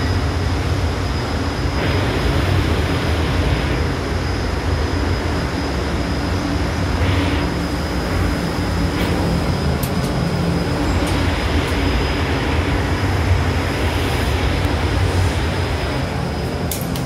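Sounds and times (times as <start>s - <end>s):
high-pitched whine: 0.0s - 17.0s
train platform rumble: 0.0s - 17.0s.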